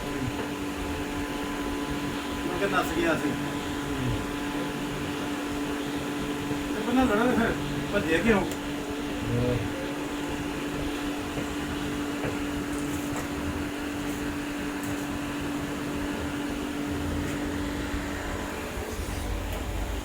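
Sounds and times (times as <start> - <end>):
machine hum and whir: 0.0 - 20.0.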